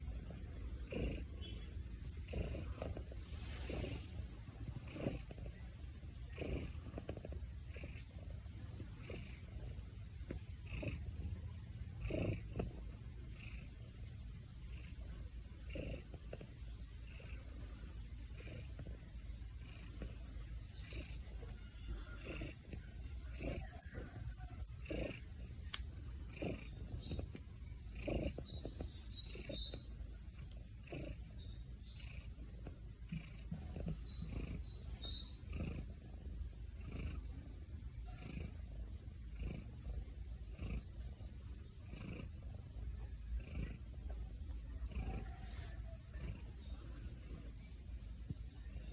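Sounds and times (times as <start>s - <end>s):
cat snoring: 0.0s - 48.9s.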